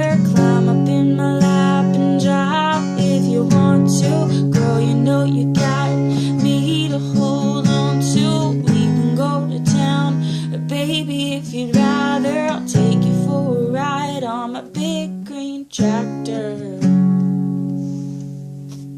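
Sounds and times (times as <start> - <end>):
person singing: 0.0 - 17.0
acoustic guitar strumming: 0.0 - 18.9.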